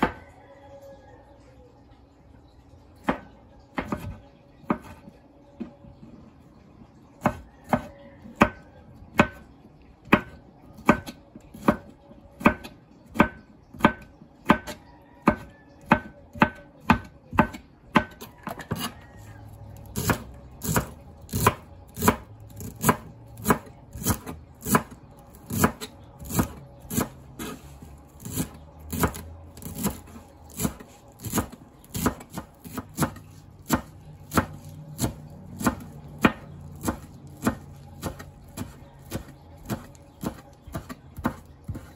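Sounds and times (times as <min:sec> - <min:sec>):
knife chopping on plastic board: 0:03.0 - 0:05.0, 0:07.2 - 0:09.4, 0:10.0 - 0:19.0, 0:19.9 - 0:41.9.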